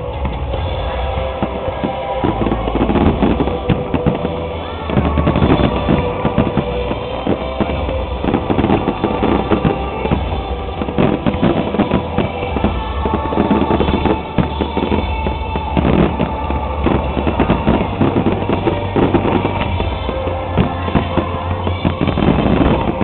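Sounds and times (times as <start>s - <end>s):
fireworks popping and banging: 0.0s - 23.0s
music with heavy drum beat: 0.0s - 23.0s.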